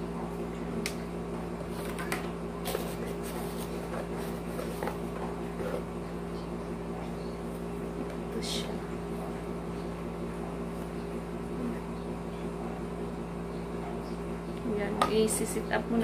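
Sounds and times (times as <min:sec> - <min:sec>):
low appliance hum: 0:00.0 - 0:16.0.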